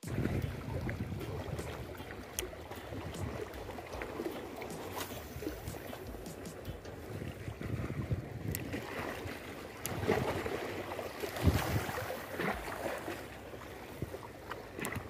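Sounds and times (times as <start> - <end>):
waves washing against rocks: 0.0 - 15.0
wind buffeting microphone: 0.0 - 15.0.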